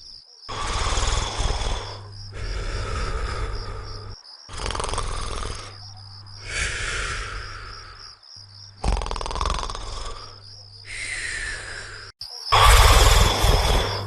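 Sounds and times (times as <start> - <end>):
steady low hum: 0.0 - 14.0
cartoon snoring: 0.5 - 8.2, 8.8 - 14.0.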